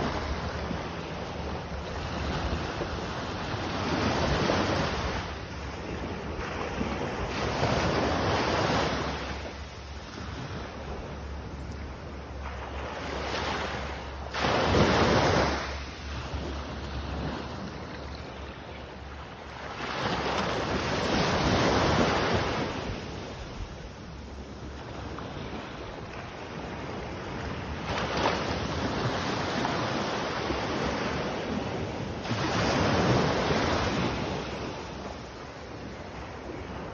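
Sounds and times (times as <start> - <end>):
small surf waves: 0.0 - 36.9.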